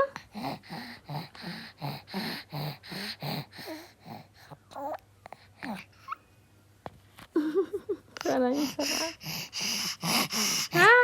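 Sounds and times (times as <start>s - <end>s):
baby making hoarse breathy sounds: 0.0s - 6.2s, 8.2s - 11.0s.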